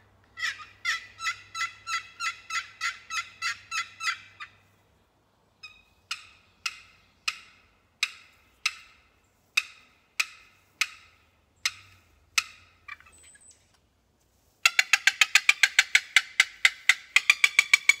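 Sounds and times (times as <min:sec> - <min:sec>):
turkey box call: 0:00.3 - 0:04.6, 0:05.6 - 0:13.5, 0:14.6 - 0:18.0.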